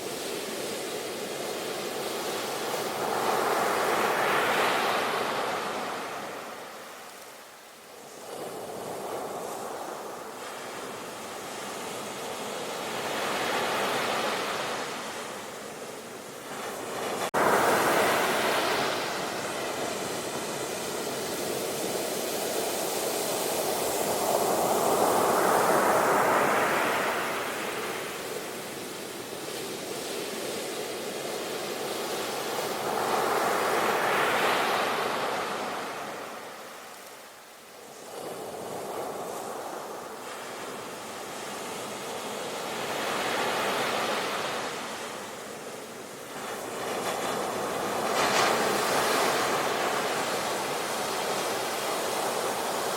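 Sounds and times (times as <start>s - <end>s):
ocean surf breaking on shore: 0.0s - 52.9s.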